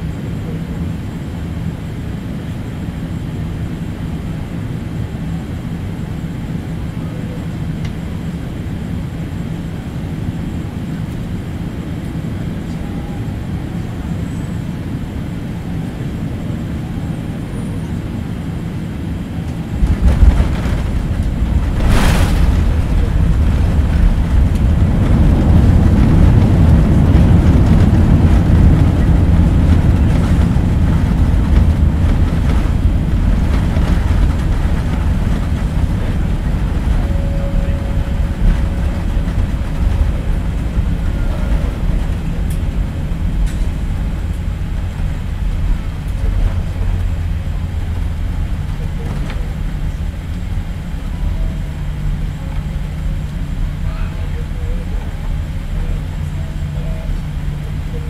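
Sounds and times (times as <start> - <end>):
aircraft engine and airflow hum: 0.0 - 58.0
wheels rumbling on runway: 0.0 - 58.0.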